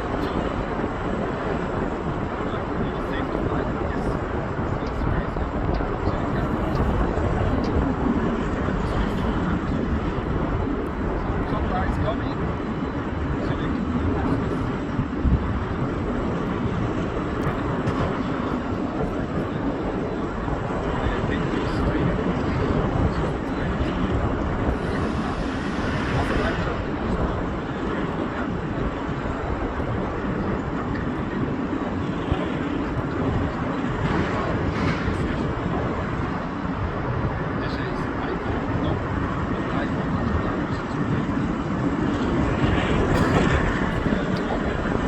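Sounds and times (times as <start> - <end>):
jet engines: 0.0 - 45.0.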